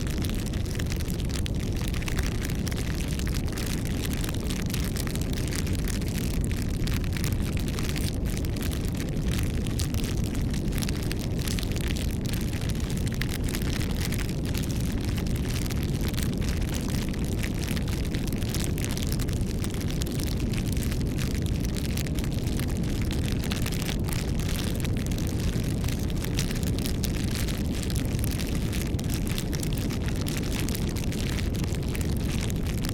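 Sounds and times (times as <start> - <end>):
campfire flame rushing: 0.0 - 32.9
fire crackling and popping: 0.0 - 32.9.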